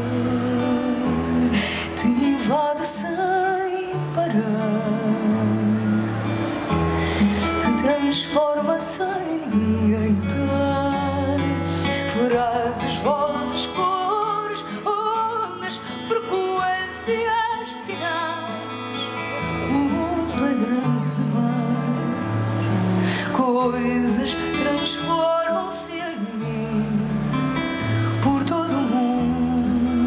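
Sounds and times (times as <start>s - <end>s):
woman singing: 0.0s - 6.1s, 7.4s - 27.4s, 28.1s - 30.0s
guitar: 0.0s - 30.0s.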